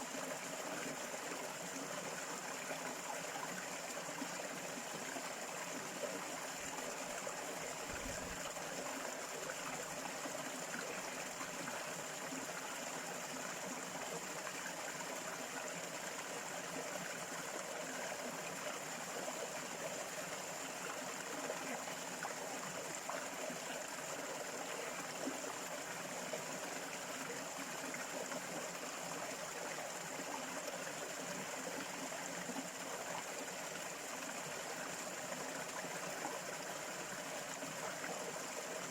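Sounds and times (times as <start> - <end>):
running water stream: 0.0 - 38.9.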